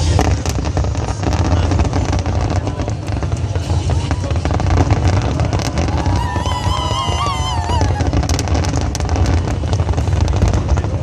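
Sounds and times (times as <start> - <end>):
fireworks crackling and booming: 0.0 - 11.0.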